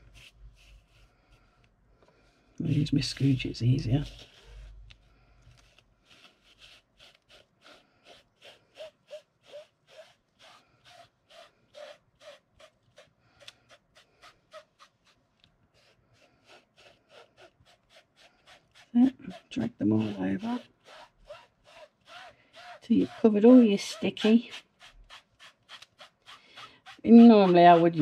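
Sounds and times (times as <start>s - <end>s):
applicator rubbing foil flakes: 2.7s - 28.0s.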